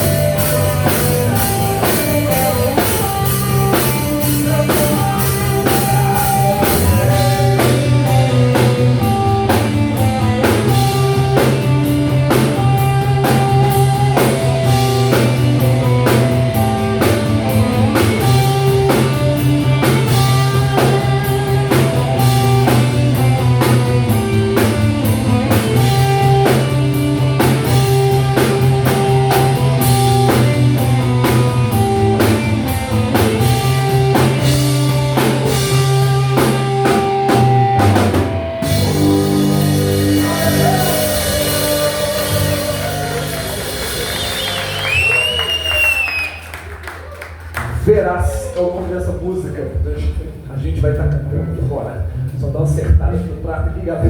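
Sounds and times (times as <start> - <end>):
ringing guitar chords: 0.0 - 45.9
drum kit beat: 0.0 - 46.6
live rock band playing: 0.0 - 47.8.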